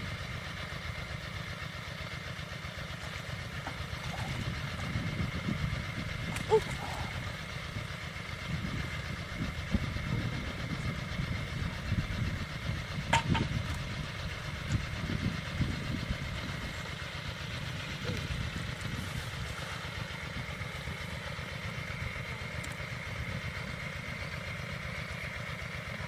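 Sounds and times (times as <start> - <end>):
small engine running: 0.0 - 26.0.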